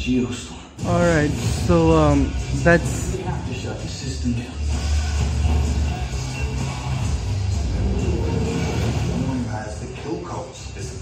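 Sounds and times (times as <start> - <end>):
trailer music with deep bass: 0.8 - 11.0.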